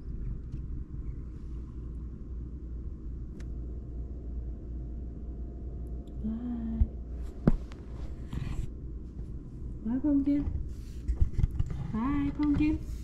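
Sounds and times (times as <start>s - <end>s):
low rumble from cat against microphone: 0.0s - 13.0s.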